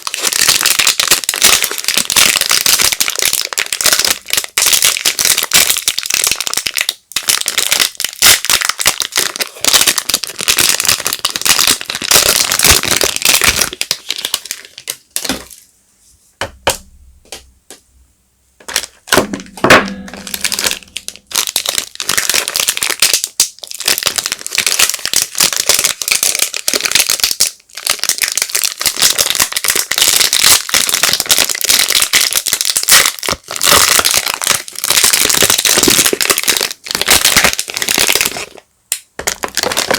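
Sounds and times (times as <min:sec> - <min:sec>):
soap wrappers crinkling: 0:00.0 - 0:15.6, 0:18.6 - 0:39.9.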